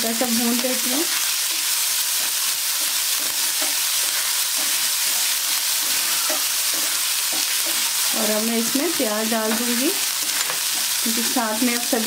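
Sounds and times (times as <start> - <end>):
food sizzling in hot oil: 0.0 - 12.0
spatula scraping pan: 0.6 - 12.0.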